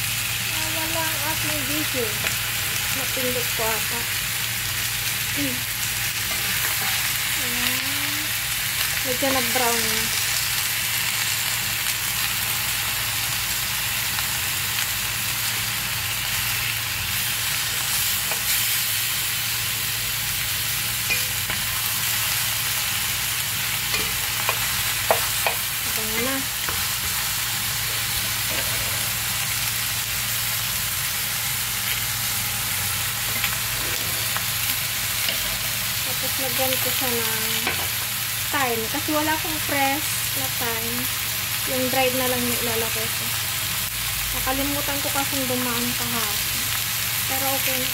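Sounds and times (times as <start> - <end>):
meat sizzling in a pan: 0.0 - 47.9.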